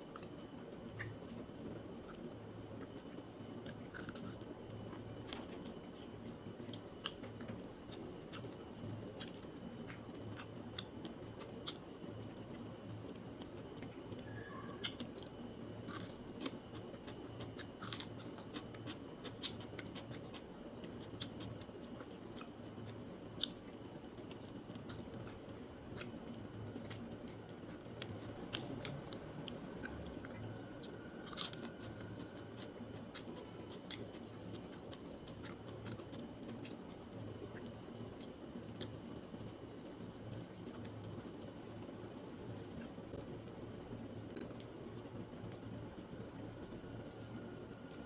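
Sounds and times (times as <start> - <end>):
moist chewing: 0.1 - 48.0.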